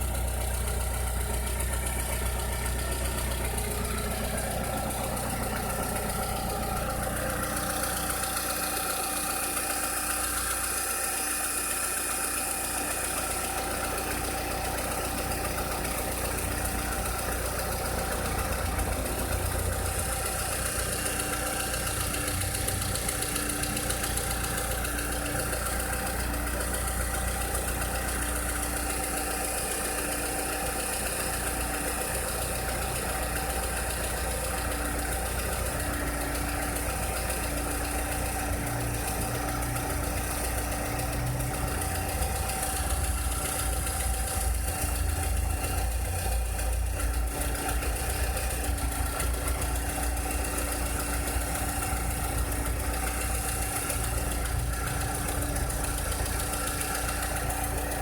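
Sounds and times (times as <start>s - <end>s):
car engine idling: 0.0s - 58.0s
strange engine noise: 0.0s - 58.0s.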